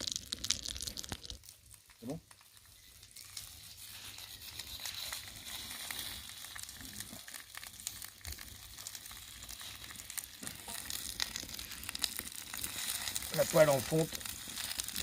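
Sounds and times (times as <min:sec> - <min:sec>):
fish sizzling in a frying pan: 0:00.0 - 0:15.0
pops and crackles: 0:00.0 - 0:15.0.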